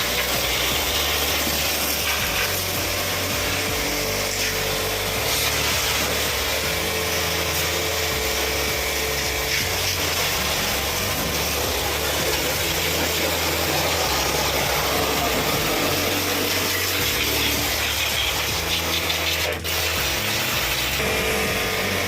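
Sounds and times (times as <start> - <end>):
motor-driven machine running: 0.0 - 22.0.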